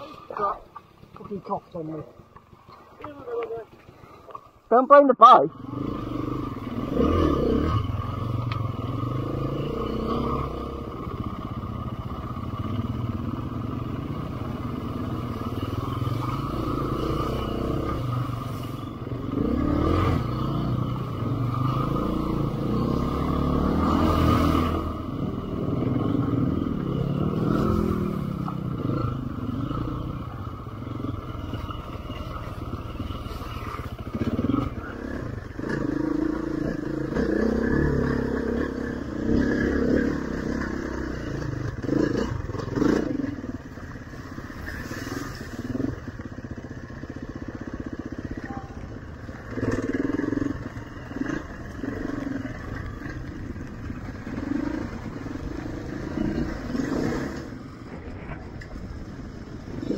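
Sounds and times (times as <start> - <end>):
off-road motorcycle engine: 0.0 - 59.9.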